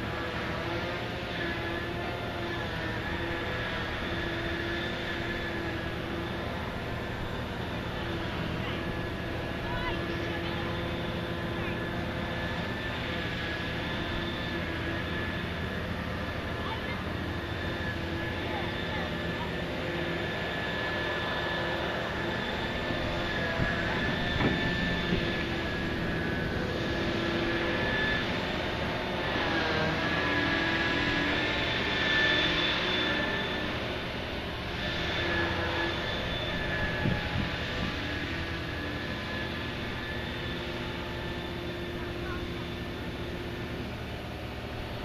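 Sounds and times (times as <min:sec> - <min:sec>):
hydraulic whine: 0:00.0 - 0:45.0.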